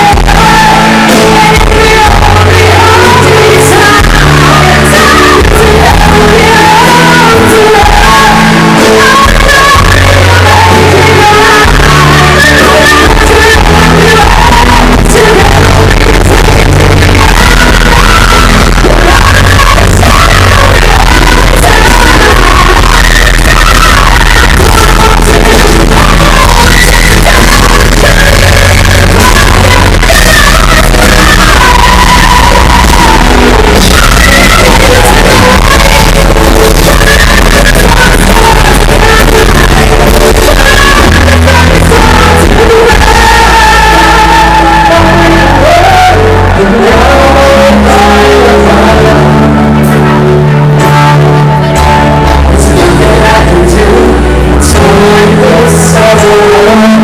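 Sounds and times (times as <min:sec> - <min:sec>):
electric guitars and bass: 0:00.0 - 0:57.0
women singing lead: 0:00.0 - 0:57.0.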